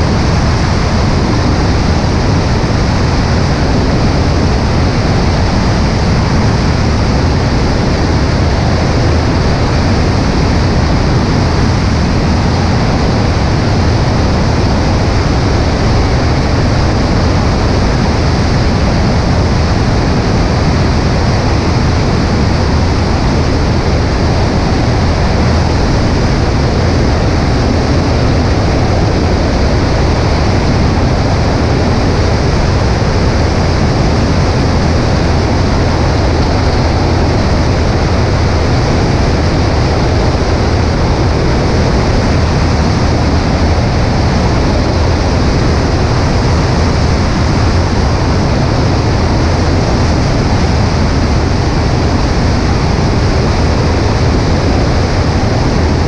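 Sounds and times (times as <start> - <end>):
airplane engine and propeller drone: 0.0 - 56.0
wind rush: 0.0 - 56.0.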